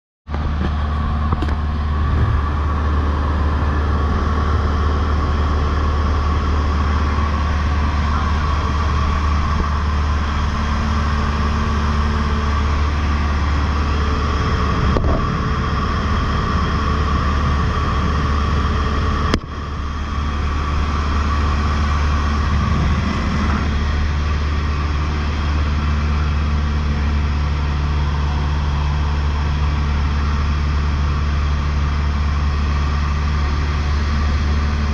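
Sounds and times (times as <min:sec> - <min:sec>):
light aircraft engine and propeller: 0:00.3 - 0:34.9.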